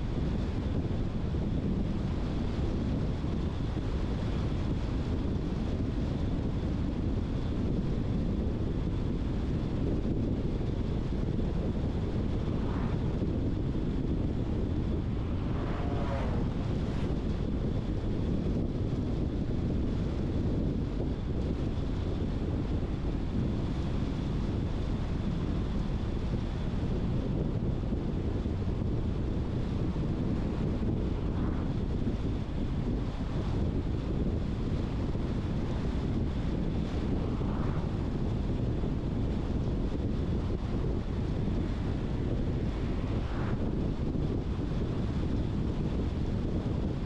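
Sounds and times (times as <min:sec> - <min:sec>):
car road and wind noise: 0:00.0 - 0:47.0.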